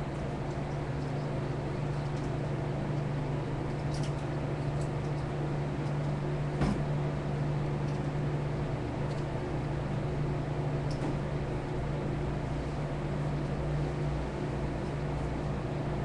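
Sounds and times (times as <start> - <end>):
low mechanical hum of machinery: 0.0 - 16.0.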